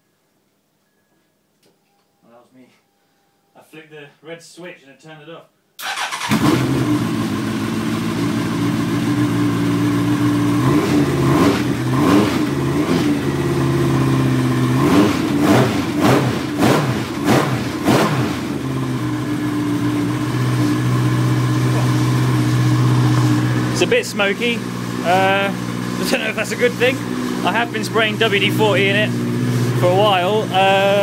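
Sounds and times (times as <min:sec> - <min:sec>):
motorcycle engine idling and revving: 0:05.8 - 0:31.0.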